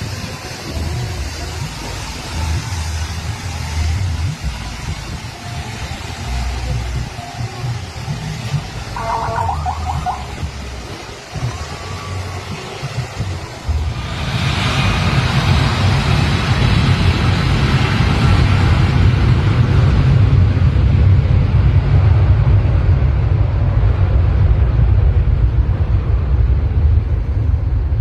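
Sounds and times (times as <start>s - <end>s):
jet engine blast: 0.0s - 28.0s.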